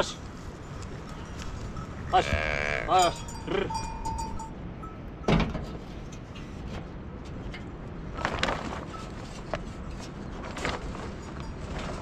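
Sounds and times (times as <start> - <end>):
steady low outdoor noise: 0.0 - 12.0.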